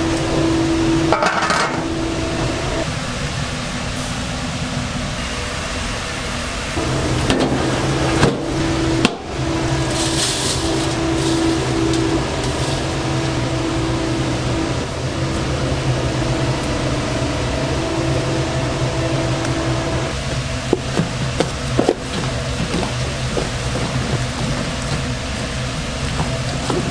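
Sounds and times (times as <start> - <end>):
machine motor humming: 0.0 - 4.0, 6.7 - 26.9.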